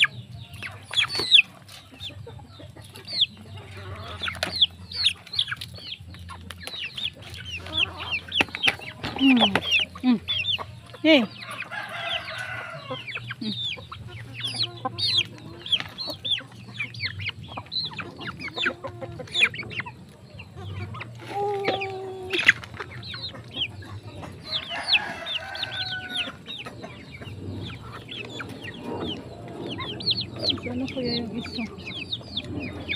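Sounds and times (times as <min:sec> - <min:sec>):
hens clucking: 0:00.0 - 0:32.9.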